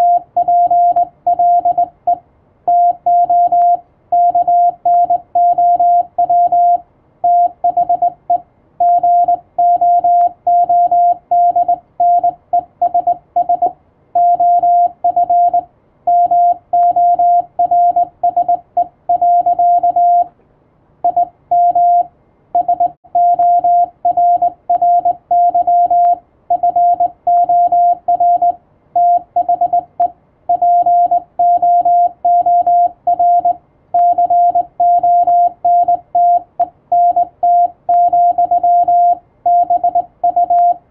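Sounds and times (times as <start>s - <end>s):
morse code beeps: 0.0s - 20.3s, 21.0s - 40.8s.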